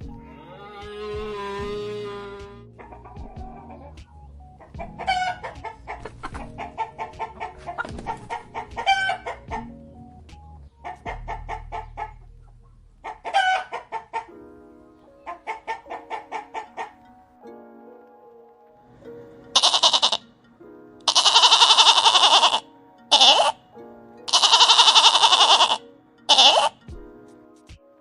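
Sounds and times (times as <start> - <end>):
chickens clucking: 0.0 - 17.6, 18.9 - 20.4, 21.0 - 26.9
faint background music: 0.0 - 28.0.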